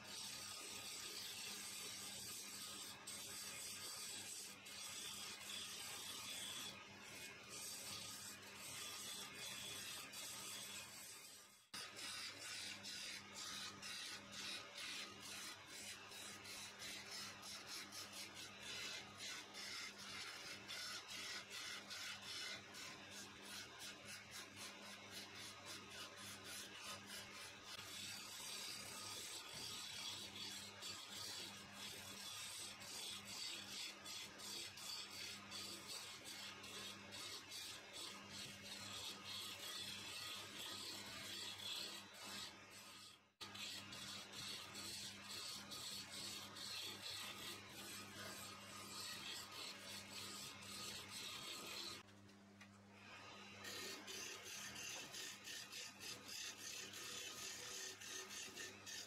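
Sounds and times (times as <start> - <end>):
chisel scraping wood on lathe: 0.1 - 52.1, 53.3 - 59.0.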